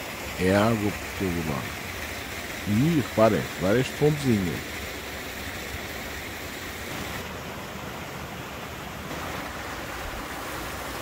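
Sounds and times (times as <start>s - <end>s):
stream rushing over small waterfalls: 0.0s - 11.0s.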